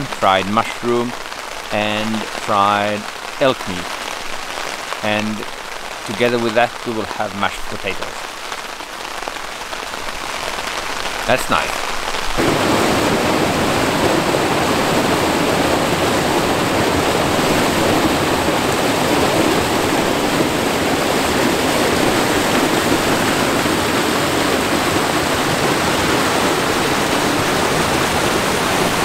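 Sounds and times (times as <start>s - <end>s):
stream rushing over boulders: 0.0s - 29.0s.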